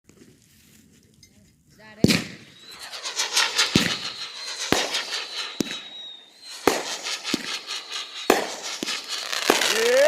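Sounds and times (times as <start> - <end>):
fireworks bangs: 1.9 - 10.0
fireworks crackling: 1.9 - 10.0.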